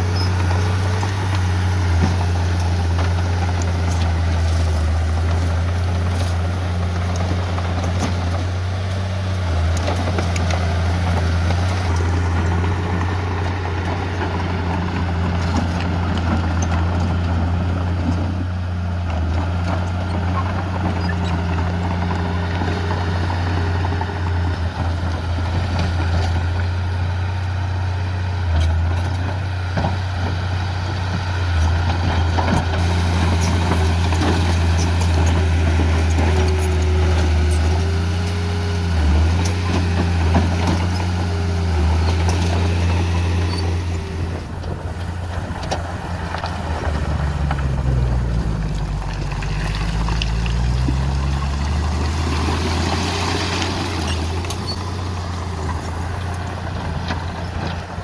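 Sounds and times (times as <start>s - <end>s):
diesel machinery droning: 0.0s - 58.0s.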